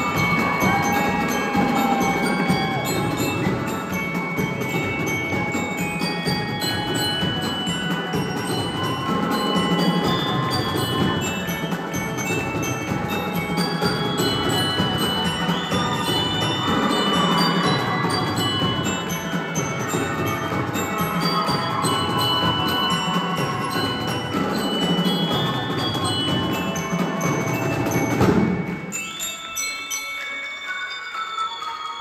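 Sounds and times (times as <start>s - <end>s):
steady drum beat: 0.0s - 28.9s
marching band playing: 0.0s - 29.0s
glockenspiels ringing: 0.0s - 32.0s.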